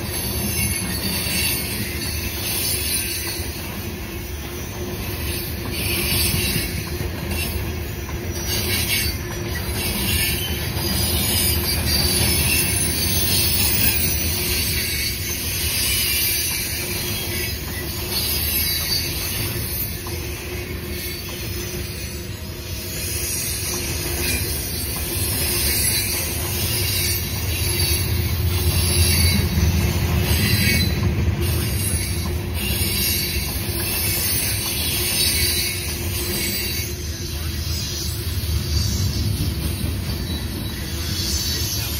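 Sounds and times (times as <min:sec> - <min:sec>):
high-pitched wheel squeal: 0:00.0 - 0:41.9
train wheels rumbling on rail: 0:00.0 - 0:41.9.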